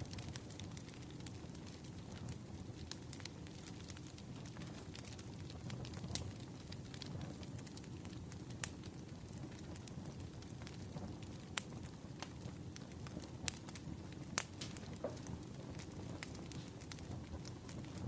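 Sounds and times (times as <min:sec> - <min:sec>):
firewood burning and crackling: 0:00.0 - 0:18.0.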